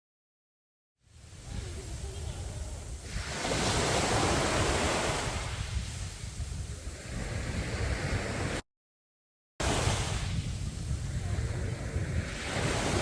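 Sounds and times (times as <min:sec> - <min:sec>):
sea waves breaking: 0:01.1 - 0:08.6, 0:09.6 - 0:13.0.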